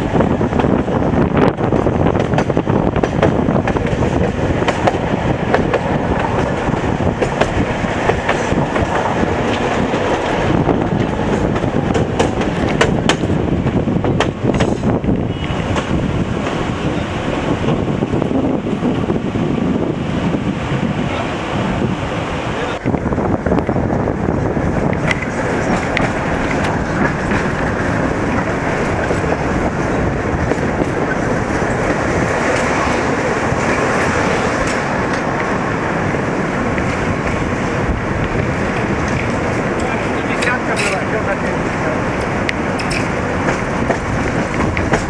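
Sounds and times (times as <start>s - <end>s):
tram wheels rumbling: 0.0s - 45.0s
wheels clacking over rail joints: 1.5s - 17.8s, 22.7s - 45.0s.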